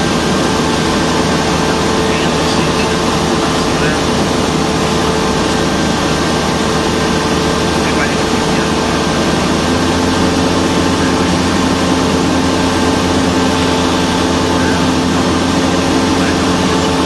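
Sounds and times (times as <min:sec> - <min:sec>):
airplane engine and propeller drone: 0:00.0 - 0:17.0.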